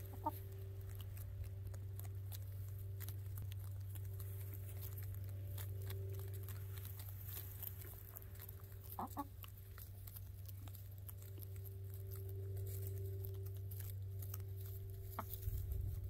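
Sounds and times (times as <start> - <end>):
hens clucking: 0.0 - 11.6, 14.3 - 15.6
pecking in dry straw: 0.0 - 16.0
steady low hum: 0.0 - 16.0.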